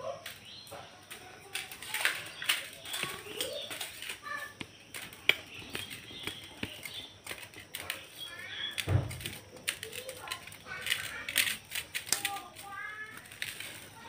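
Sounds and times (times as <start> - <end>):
faint chirps: 0.0 - 14.0
hands mashing rice on plates: 1.1 - 12.6.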